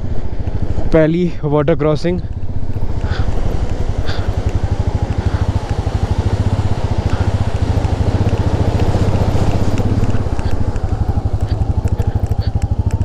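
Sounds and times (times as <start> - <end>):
motorcycle engine running: 0.0 - 1.1, 2.2 - 13.0.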